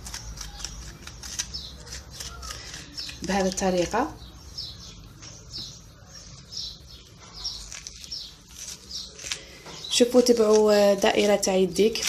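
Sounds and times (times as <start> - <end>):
spoon scraping courgette: 0.0 - 4.0, 5.2 - 12.0.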